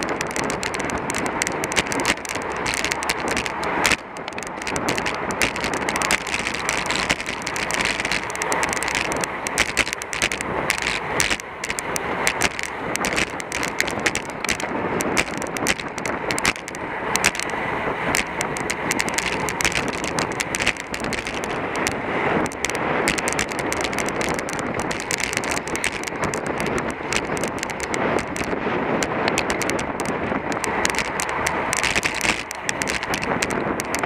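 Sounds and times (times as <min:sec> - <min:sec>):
sharp clicks and rattles: 0:00.0 - 0:34.0
wind rushing over microphone: 0:00.0 - 0:34.0.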